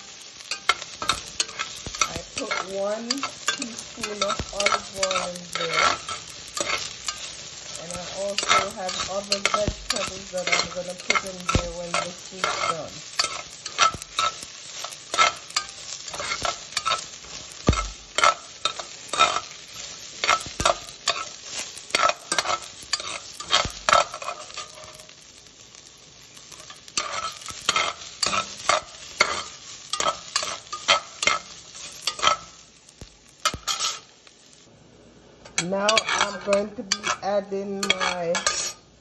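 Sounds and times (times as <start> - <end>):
metal spoon scraping a pan: 0.0 - 34.1, 35.4 - 39.0
vegetables frying in oil: 0.0 - 39.0.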